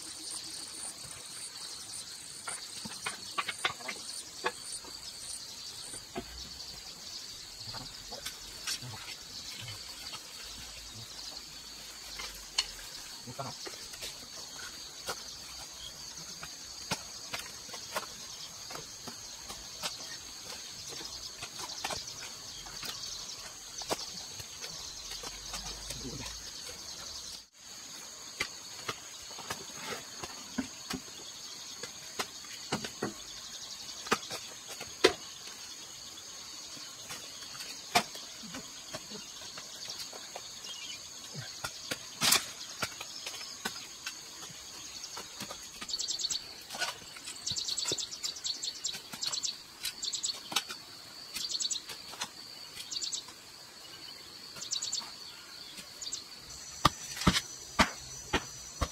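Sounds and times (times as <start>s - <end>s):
insect drone: 0.0s - 58.9s.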